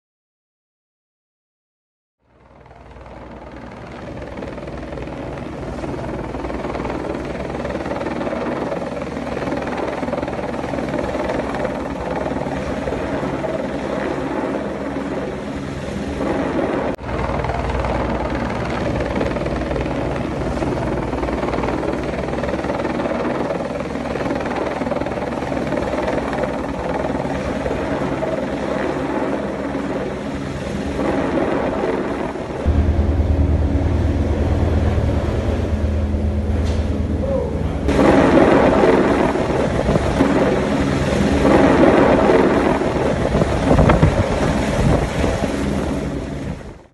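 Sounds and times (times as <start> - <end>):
helicopter rotor and engine: 2.2 - 46.9.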